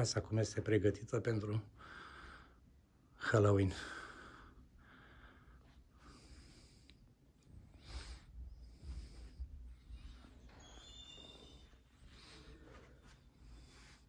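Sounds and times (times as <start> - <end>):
soft breathing: 1.7 - 14.0.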